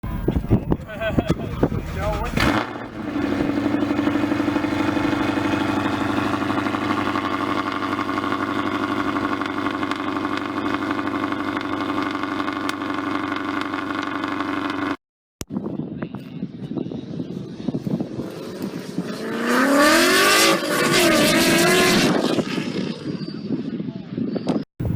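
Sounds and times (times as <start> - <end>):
loud car engine and exhaust: 0.0 - 15.0, 17.6 - 23.2
rougher quieter engine: 0.0 - 15.0, 17.6 - 23.2.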